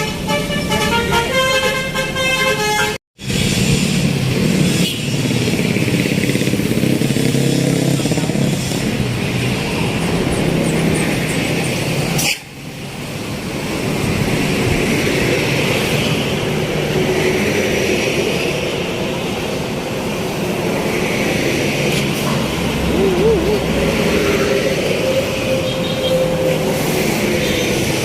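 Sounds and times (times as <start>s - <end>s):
road vehicle engines and tyres: 0.0s - 28.0s.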